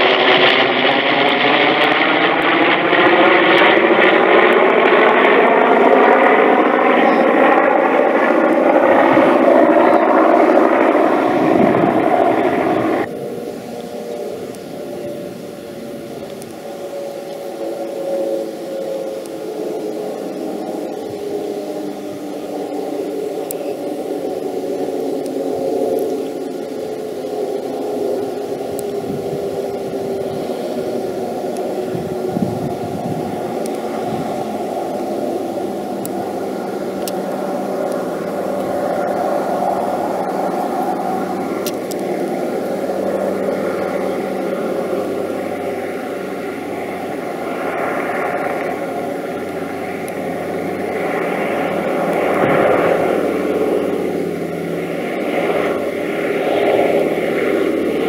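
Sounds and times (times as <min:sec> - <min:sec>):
broad rushing noise: 0:00.0 - 0:58.0
piston aircraft engines droning: 0:00.0 - 0:58.0.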